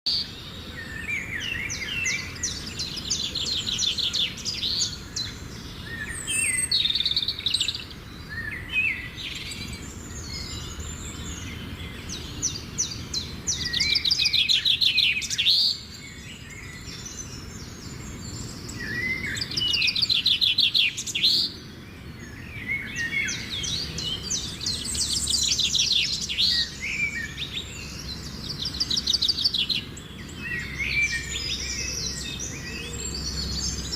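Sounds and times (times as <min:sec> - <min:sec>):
low background noise: 0:00.1 - 0:33.9
songbird trilling: 0:00.1 - 0:33.9.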